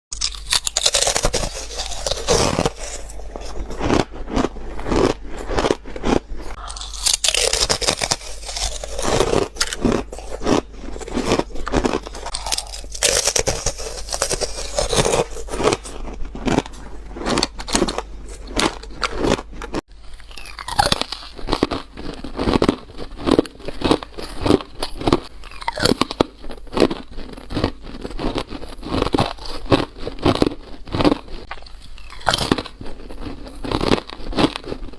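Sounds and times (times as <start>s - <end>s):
crunching ice: 0.1s - 34.9s.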